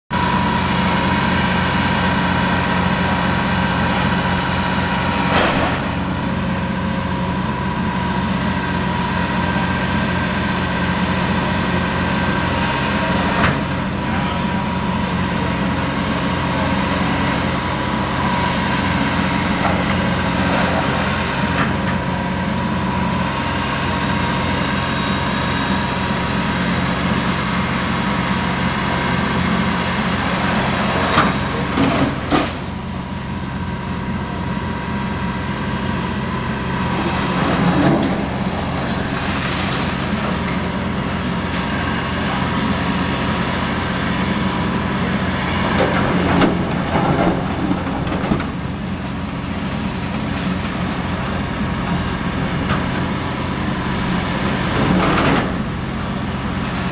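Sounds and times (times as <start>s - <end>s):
excavator diesel engines running: 0.1s - 56.9s.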